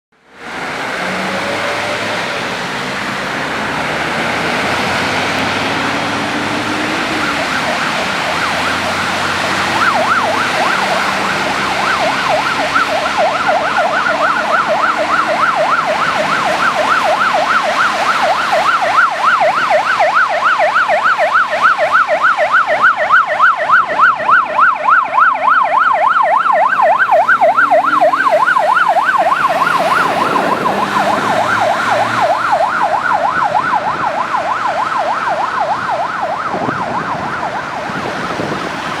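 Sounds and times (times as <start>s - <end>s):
engine and road noise: 0.1s - 39.0s
fire engine siren yelp: 0.3s - 39.0s.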